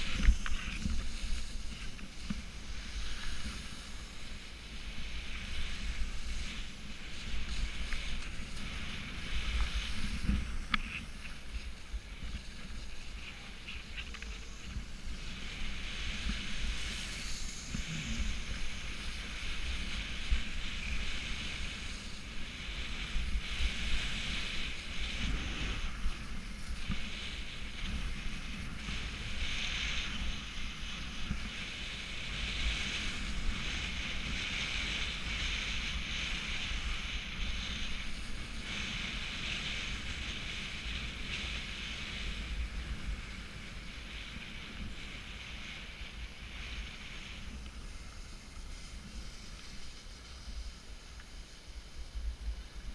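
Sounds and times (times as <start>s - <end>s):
skis sliding through slush: 0.0s - 52.9s
wind rumble on microphone: 0.0s - 52.9s.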